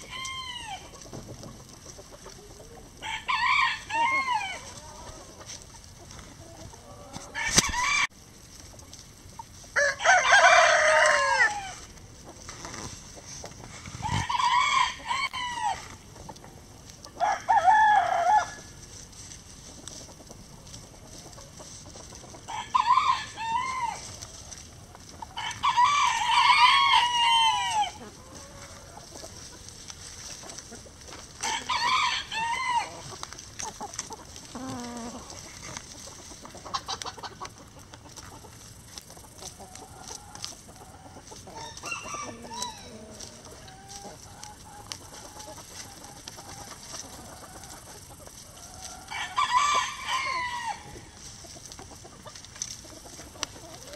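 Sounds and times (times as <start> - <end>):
roosters crowing: 0.0 - 8.2, 9.6 - 12.0, 13.6 - 16.1, 17.0 - 18.9, 21.4 - 37.5, 38.3 - 53.9
hens clucking quietly: 0.0 - 53.9.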